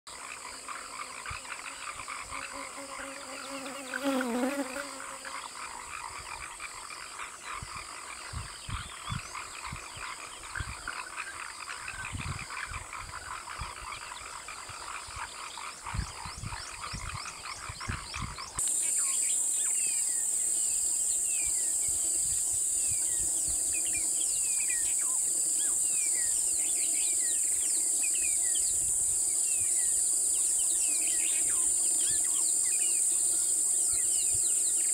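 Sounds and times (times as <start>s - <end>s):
birds chirping: 0.1s - 34.9s
high insect drone: 0.1s - 34.9s.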